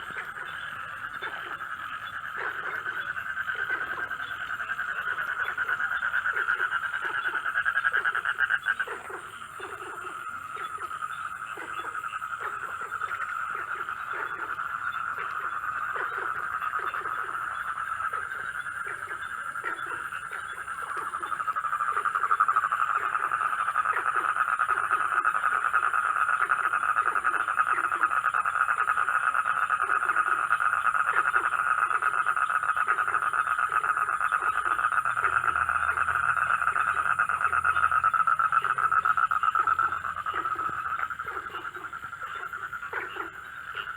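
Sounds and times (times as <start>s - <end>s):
frogs croaking: 0.0s - 43.9s
frogs trilling: 0.0s - 43.9s.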